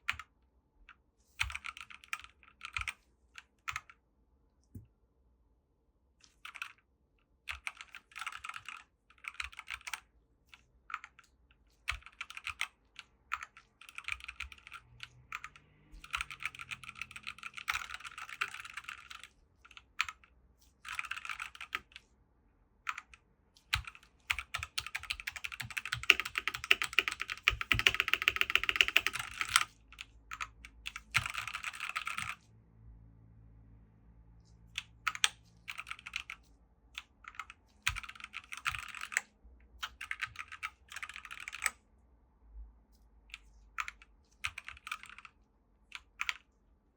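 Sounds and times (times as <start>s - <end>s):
typing on mechanical keyboard: 0.0s - 0.3s, 1.4s - 4.0s, 6.2s - 6.9s, 7.5s - 22.1s, 22.8s - 32.5s, 34.7s - 41.8s, 43.3s - 46.5s.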